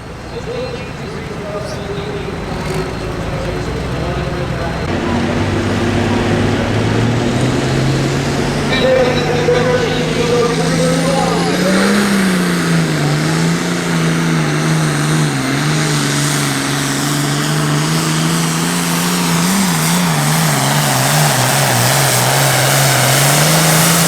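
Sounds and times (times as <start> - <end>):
diesel tractor engine at high revs: 0.0 - 24.0.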